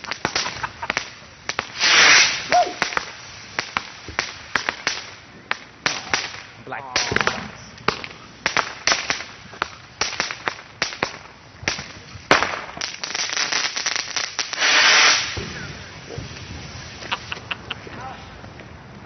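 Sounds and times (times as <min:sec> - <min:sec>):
fireworks hissing burst: 0:00.0 - 0:18.0
fireworks bangs and pops: 0:00.0 - 0:19.0
fireworks crackling: 0:00.0 - 0:19.0.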